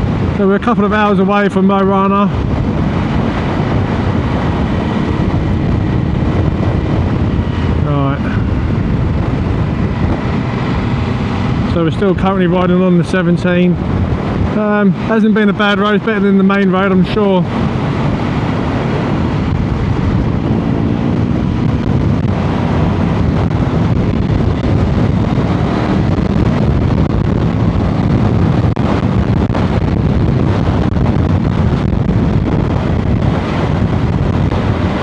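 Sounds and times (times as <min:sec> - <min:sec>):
wind buffeting microphone: 0:00.0 - 0:35.0
motorcycle engine running: 0:02.4 - 0:14.6, 0:16.0 - 0:35.0.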